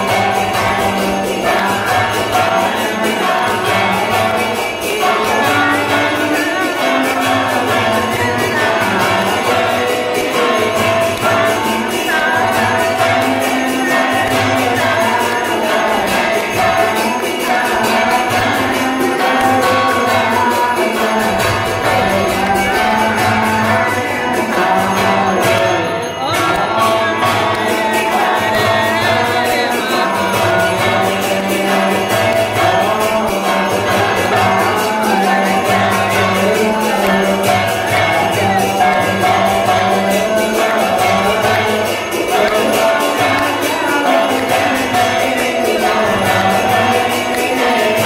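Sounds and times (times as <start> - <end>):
bells and cymbals clanging: 0.0 - 48.0
devotional singing: 0.0 - 48.0.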